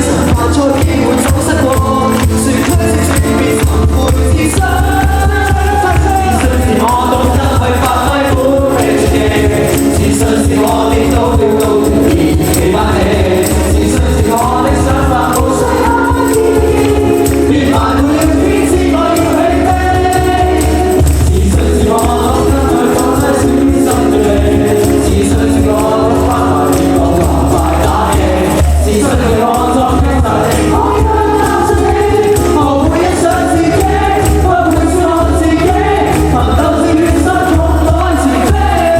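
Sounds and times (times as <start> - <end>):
live band playing: 0.0 - 38.9
person singing: 0.0 - 38.9
steady bass line: 0.0 - 38.9.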